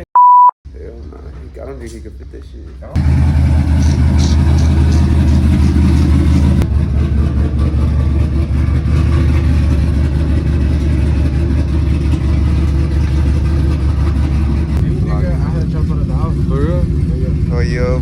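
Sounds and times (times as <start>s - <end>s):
vehicle engine running: 0.8s - 18.0s.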